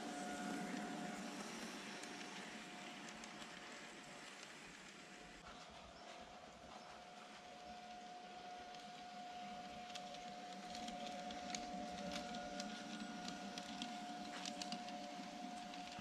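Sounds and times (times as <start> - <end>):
model locomotive motor whine: 0.0 - 5.4, 6.4 - 16.0.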